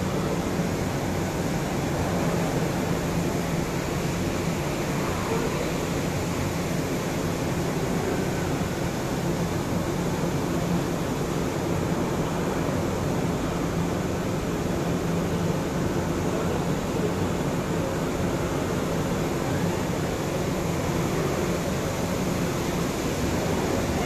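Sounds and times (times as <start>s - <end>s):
low machinery hum: 0.0s - 24.0s
rushing air drone: 0.0s - 24.0s.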